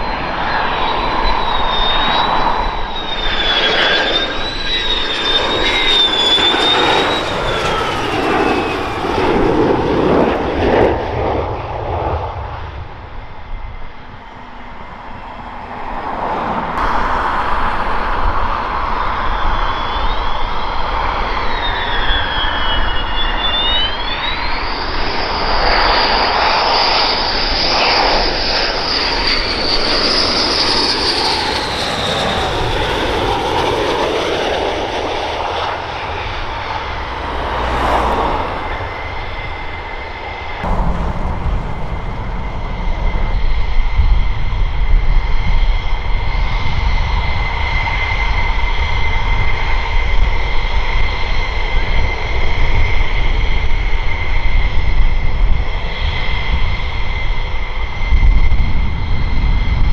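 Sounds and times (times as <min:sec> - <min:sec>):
jet engine with turbine whine: 0:00.0 - 0:59.9.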